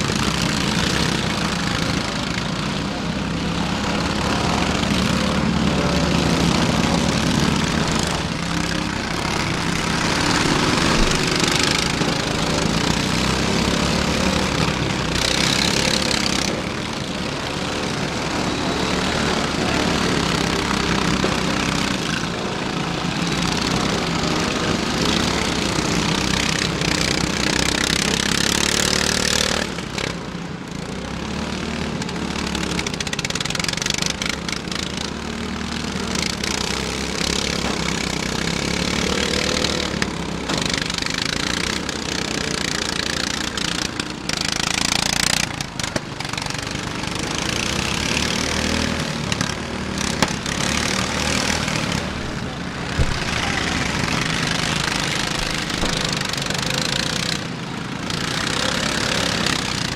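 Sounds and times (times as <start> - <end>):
riding lawn mower engines revving: 0.0 - 59.9.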